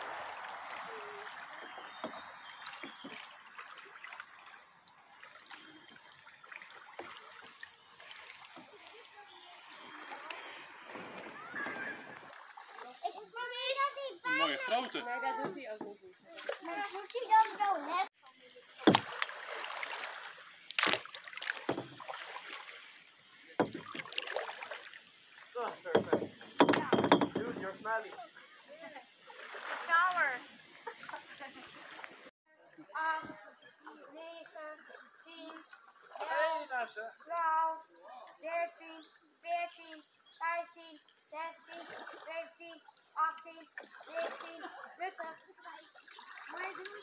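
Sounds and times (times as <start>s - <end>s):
paddle splashes: 0.0s - 37.3s, 39.1s - 47.0s
water trickling and dripping: 0.0s - 47.0s.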